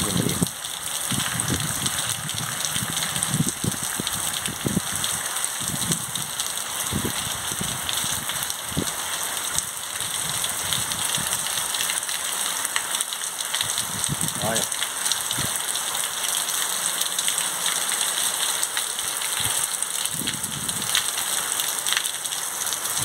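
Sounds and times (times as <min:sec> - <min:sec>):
heavy rain on pavement and roofs: 0:00.0 - 0:23.0.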